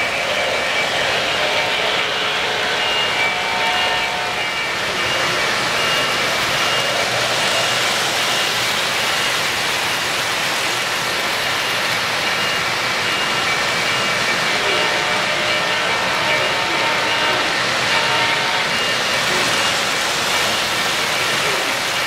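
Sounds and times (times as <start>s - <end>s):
model train wheels whirring: 0.0s - 22.0s.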